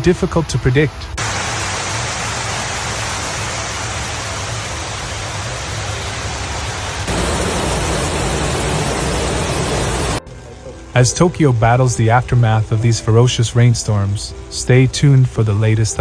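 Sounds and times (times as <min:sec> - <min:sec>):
torrential rain hissing: 0:00.0 - 0:16.0.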